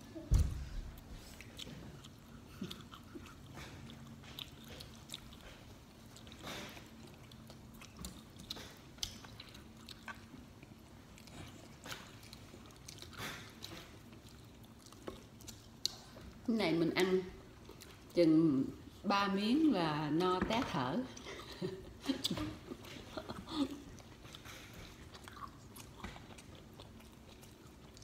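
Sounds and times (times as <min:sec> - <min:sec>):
person chewing food: 0:00.7 - 0:16.5, 0:17.4 - 0:18.2, 0:21.2 - 0:28.0.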